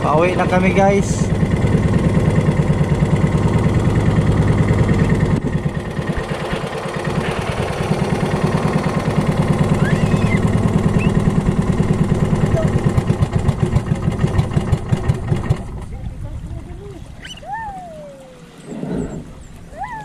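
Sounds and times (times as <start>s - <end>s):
boat engine chugging: 0.0s - 20.0s.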